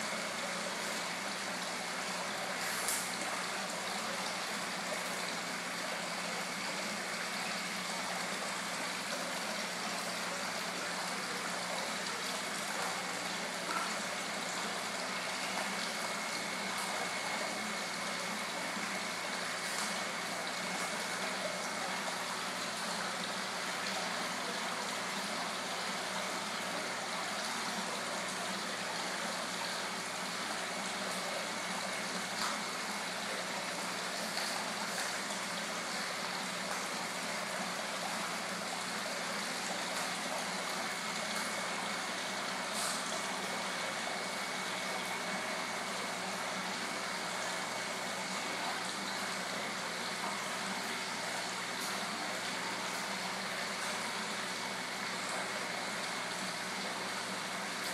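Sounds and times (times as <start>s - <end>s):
waterfall running into pond: 0.0s - 57.9s.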